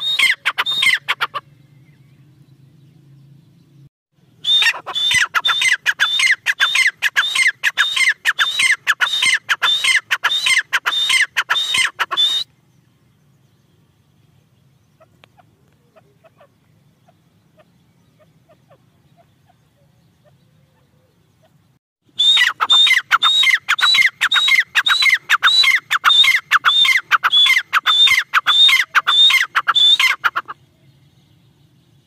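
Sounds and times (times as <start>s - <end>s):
francolin calling: 0.0s - 2.8s, 4.3s - 31.8s.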